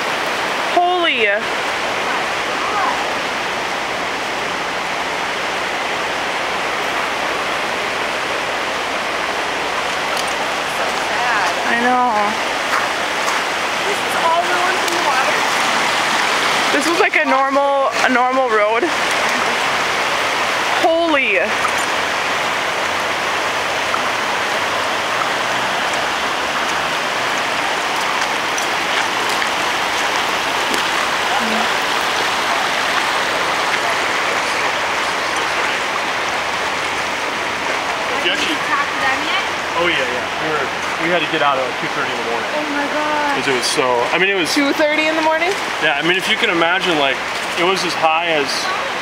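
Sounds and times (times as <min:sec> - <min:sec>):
floodwater rushing: 0:00.0 - 0:49.0.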